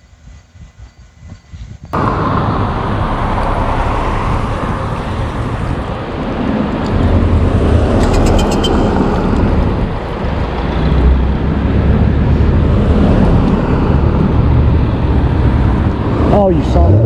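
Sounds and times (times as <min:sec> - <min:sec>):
road vehicle engine rumble: 0:02.0 - 0:17.0.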